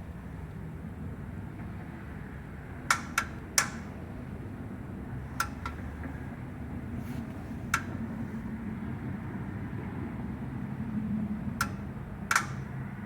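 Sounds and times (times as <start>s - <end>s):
low steady background rumble: 0.0s - 13.0s.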